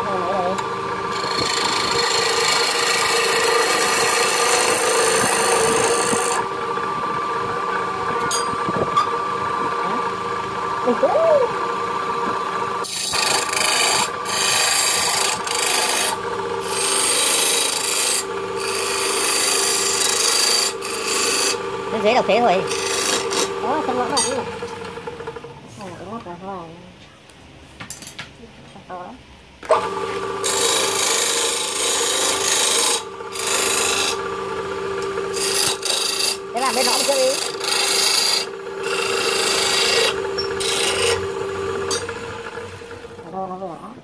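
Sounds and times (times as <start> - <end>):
lathe motor hum: 0.0 - 26.3, 29.6 - 43.8
tool shaving wood on lathe: 0.1 - 25.6, 29.6 - 43.4.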